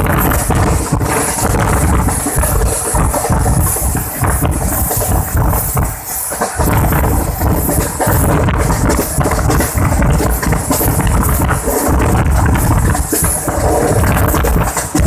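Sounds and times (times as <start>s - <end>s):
train rumbling at speed: 0.0s - 15.0s
wind buffeting microphone: 0.0s - 15.0s.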